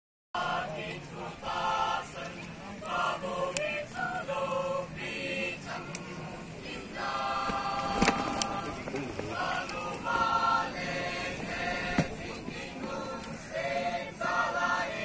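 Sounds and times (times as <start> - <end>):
church choir singing: 0.4 - 15.0.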